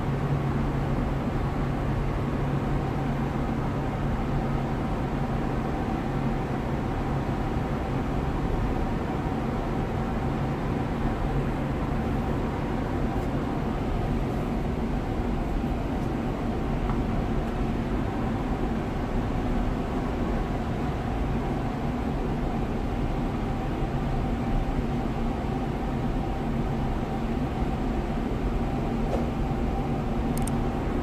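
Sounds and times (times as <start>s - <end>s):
ship engine drone: 0.0s - 31.0s.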